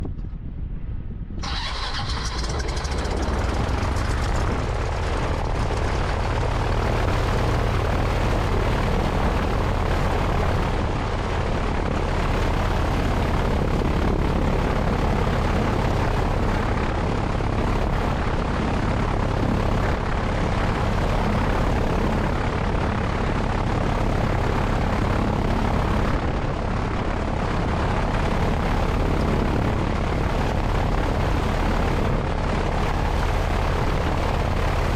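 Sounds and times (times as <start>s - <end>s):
propeller plane engine running: 0.0s - 34.9s
wind rushing over microphone: 0.0s - 34.9s.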